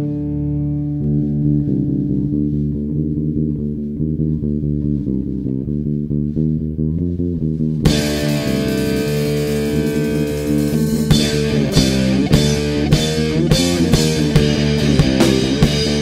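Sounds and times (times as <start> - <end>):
electric guitar and bass riff: 0.0 - 16.0.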